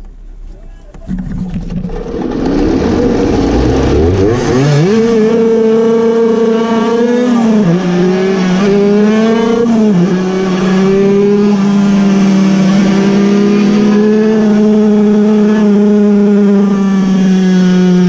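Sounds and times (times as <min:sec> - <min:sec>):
other small two-stroke engines: 0:01.0 - 0:18.0
two-stroke racing engine at high revs: 0:01.6 - 0:18.0.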